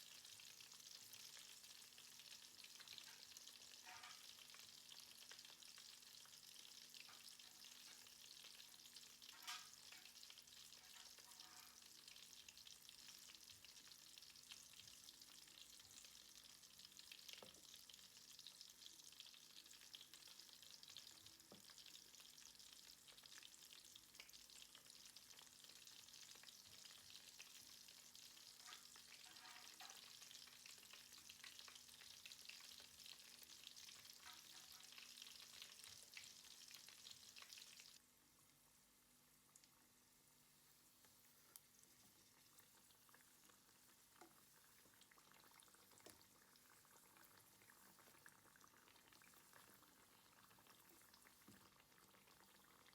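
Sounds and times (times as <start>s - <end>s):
food deep-frying in hot oil: 0.0s - 52.9s.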